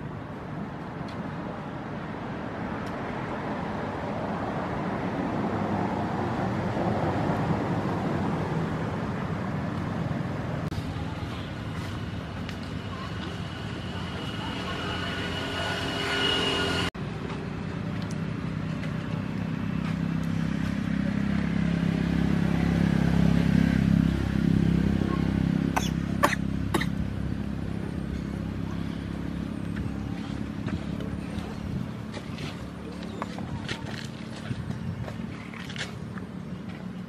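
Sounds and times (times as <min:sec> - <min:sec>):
vehicle engine humming: 0:00.0 - 0:37.0.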